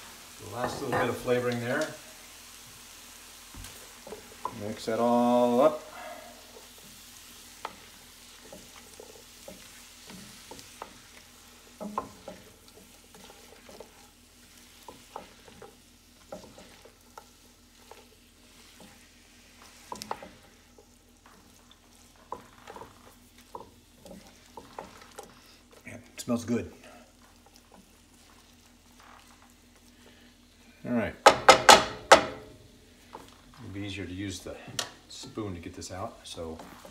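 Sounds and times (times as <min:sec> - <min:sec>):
spatula scraping a skillet: 0:00.0 - 0:30.6, 0:32.2 - 0:36.9
food sizzling: 0:00.0 - 0:36.9.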